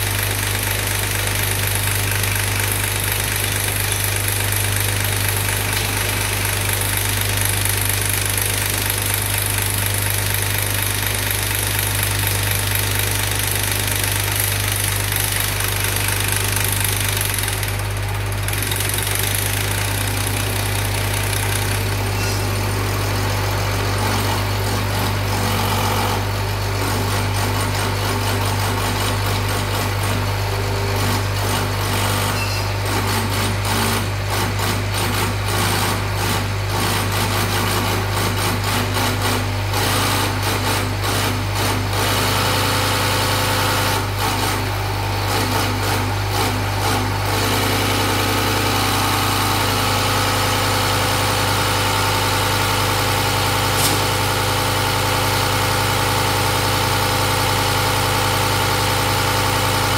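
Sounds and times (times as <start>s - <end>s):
injection pump test bench running: 0.0s - 59.9s.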